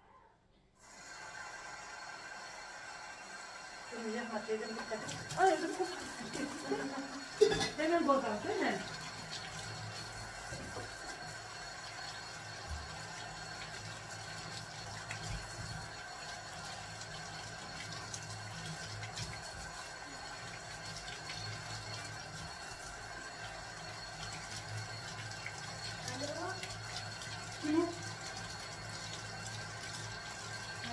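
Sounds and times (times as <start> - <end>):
tap water running into sink: 3.3 - 30.9.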